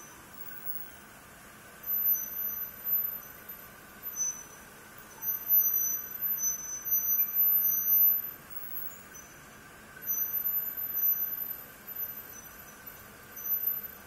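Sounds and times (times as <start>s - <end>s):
high thin ringing tone: 1.8s - 9.4s, 10.0s - 14.0s.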